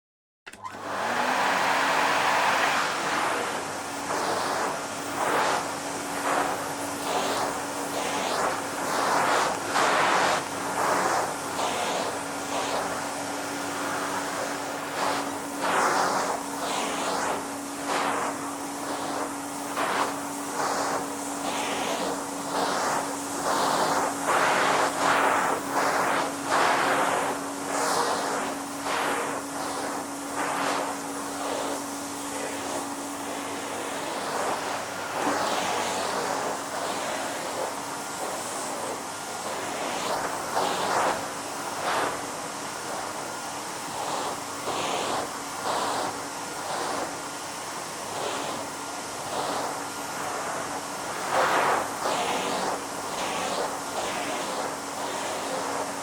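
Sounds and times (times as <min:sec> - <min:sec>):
vacuum cleaner running: 0:00.5 - 0:56.0.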